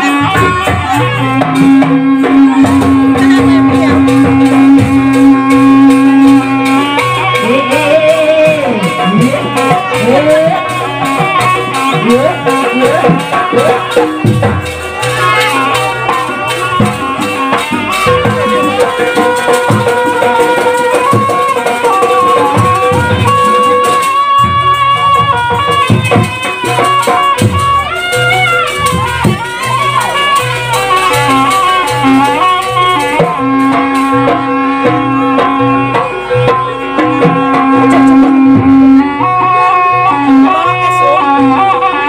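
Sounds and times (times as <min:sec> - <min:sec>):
ringing gongs: 0:00.0 - 0:41.2
drum strokes: 0:00.0 - 0:42.0
shawm wailing melody: 0:00.0 - 0:42.0.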